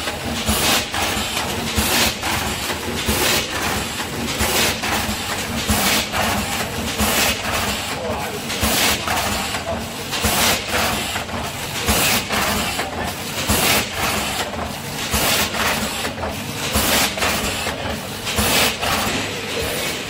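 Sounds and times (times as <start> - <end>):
packing machine hum: 0.0 - 20.0.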